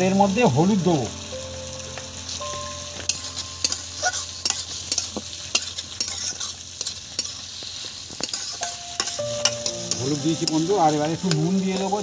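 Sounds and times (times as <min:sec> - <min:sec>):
potato filling sizzling in a pan: 0:00.0 - 0:12.0.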